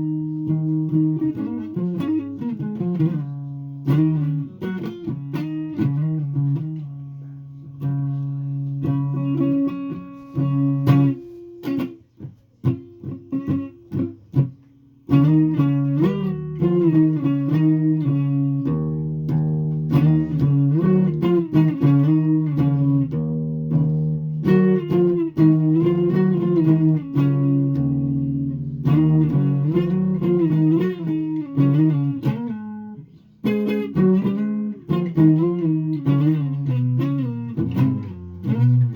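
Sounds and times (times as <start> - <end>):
solo guitar playing: 0.0 - 38.9.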